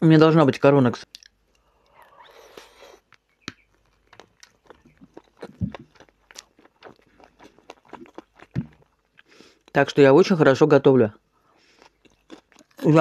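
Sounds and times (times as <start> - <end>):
chewing tomato: 1.0 - 10.0, 11.5 - 13.0.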